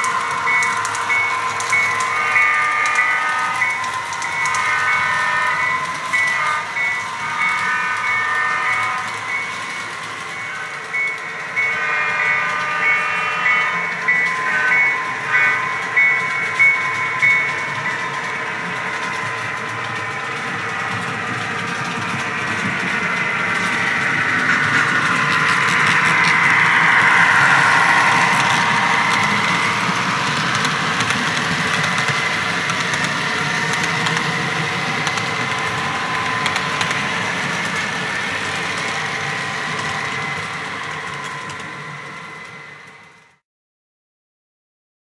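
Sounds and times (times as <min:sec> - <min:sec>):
model train rolling past: 0:00.0 - 0:43.4
wheels clicking on track: 0:00.0 - 0:43.4.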